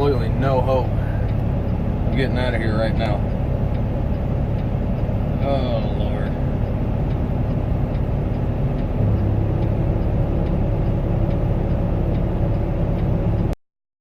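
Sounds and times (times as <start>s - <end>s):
faint ticking: 0.0s - 13.6s
truck diesel engine idling: 0.0s - 13.6s.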